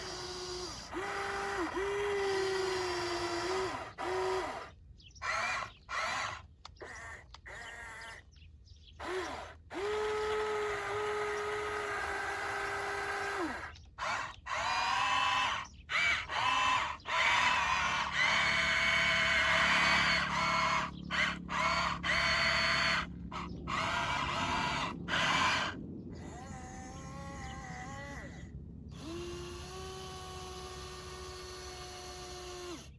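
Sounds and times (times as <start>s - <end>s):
small electric motors whining: 0.0s - 8.3s, 8.9s - 32.9s.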